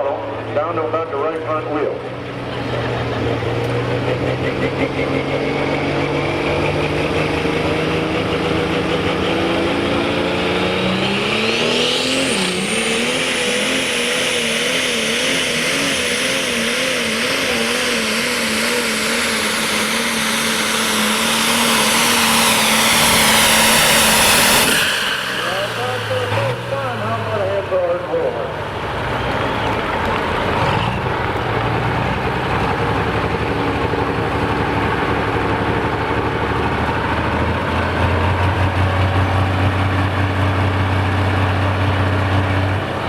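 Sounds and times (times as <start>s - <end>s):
diesel engine under full load: 0.0s - 43.0s
high turbo whine: 0.0s - 43.0s.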